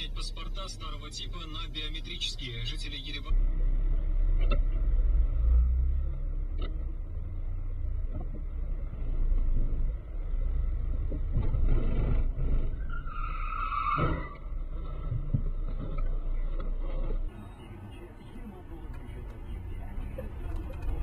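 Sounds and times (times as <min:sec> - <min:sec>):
car driving rumble inside vehicle: 0:00.0 - 0:21.0.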